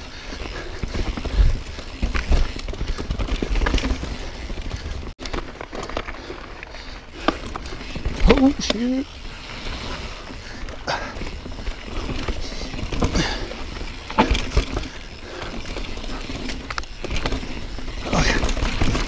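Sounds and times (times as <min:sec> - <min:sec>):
bike knocking and rattling on rocks: 0:00.0 - 0:19.0
bike tyres rumbling on trail: 0:00.0 - 0:19.0.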